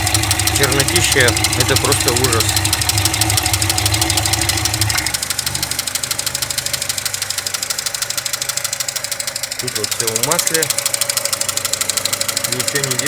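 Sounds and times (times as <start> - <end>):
car engine idling: 0.0 - 13.0
deep hum: 0.0 - 13.0
fast even engine ticking: 0.0 - 13.0.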